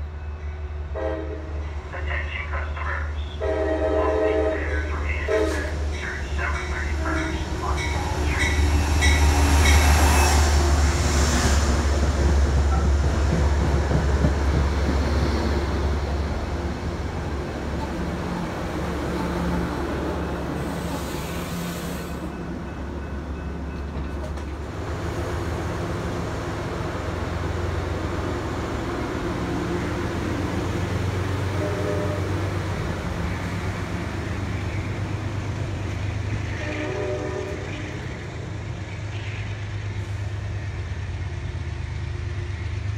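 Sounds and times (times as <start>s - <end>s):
diesel locomotive engine: 0.0s - 42.9s
train coaches rolling past: 0.0s - 42.9s.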